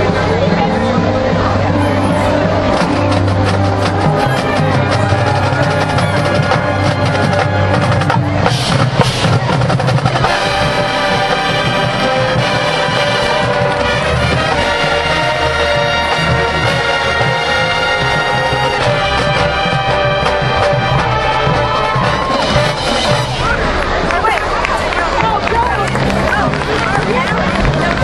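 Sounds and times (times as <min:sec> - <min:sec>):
brass sustained chords: 0:00.0 - 0:28.0
marching band drums: 0:00.0 - 0:28.0.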